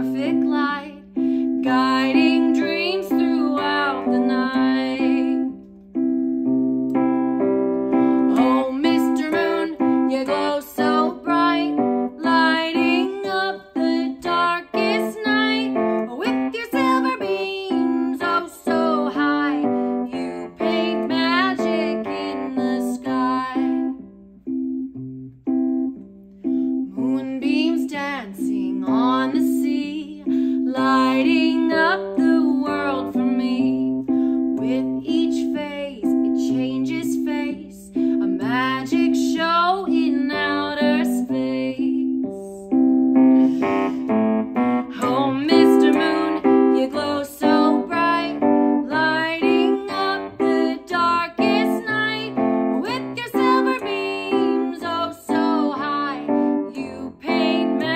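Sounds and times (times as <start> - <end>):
woman singing: 0.0 - 5.6, 7.9 - 24.1, 26.9 - 42.8, 44.9 - 57.9
piano playing children's song: 0.0 - 57.9.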